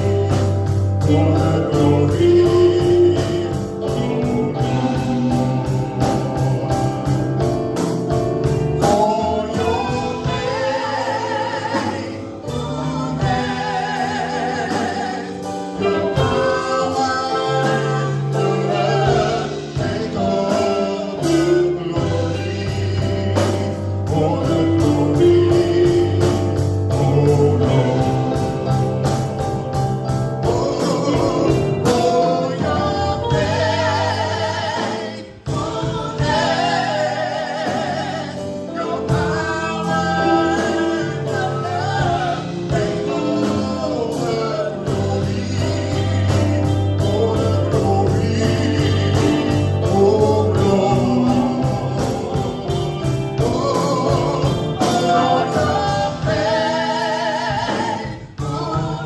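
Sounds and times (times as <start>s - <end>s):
bass: 0.0s - 59.0s
choir singing: 0.0s - 59.0s
drums with steady beat: 0.0s - 59.0s
keyboard: 0.0s - 59.0s.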